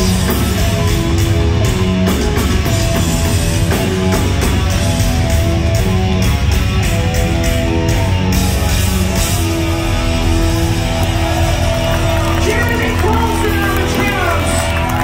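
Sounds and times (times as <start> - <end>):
bass guitar: 0.0 - 15.0
drums: 0.0 - 15.0
electric guitars sustained notes: 0.0 - 15.0.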